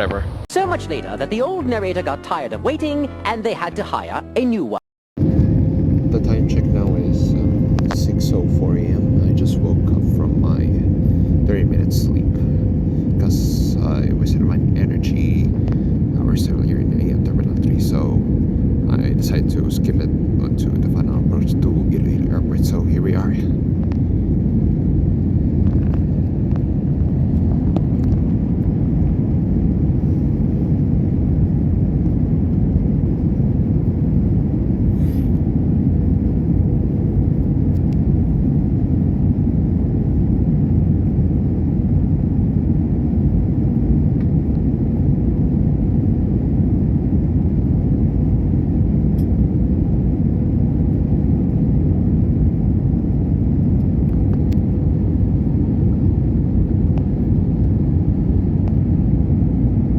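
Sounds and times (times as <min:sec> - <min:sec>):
airliner cabin rumble: 0:00.0 - 0:04.2, 0:05.2 - 0:59.9
faint steady hum: 0:05.2 - 0:59.9.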